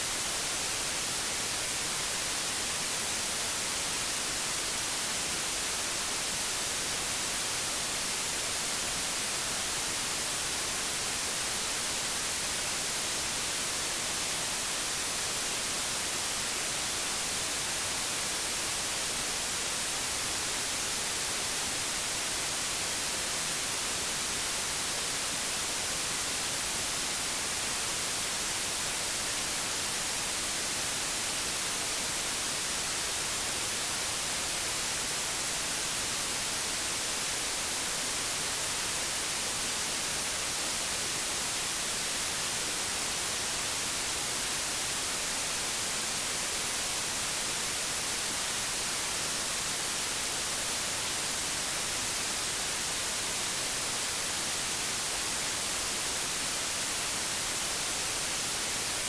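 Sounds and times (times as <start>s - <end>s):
television static hiss: 0.0s - 59.0s.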